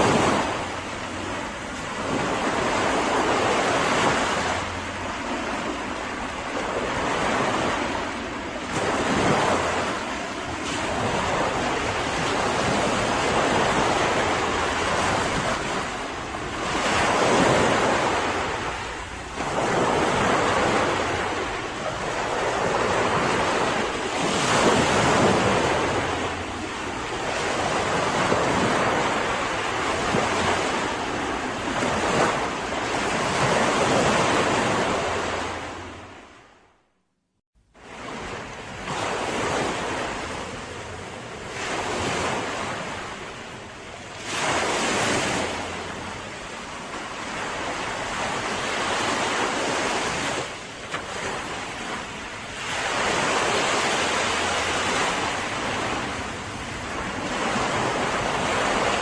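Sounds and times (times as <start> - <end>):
sea waves breaking on shore: 0.0 - 36.7, 37.8 - 59.0.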